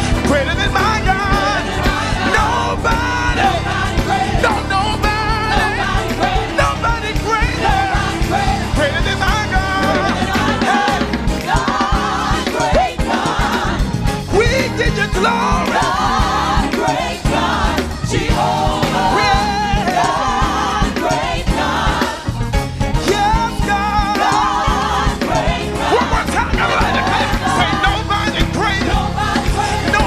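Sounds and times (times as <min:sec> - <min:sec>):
band playing: 0:00.0 - 0:30.0
bass line: 0:00.0 - 0:30.0
choir singing: 0:00.0 - 0:30.0.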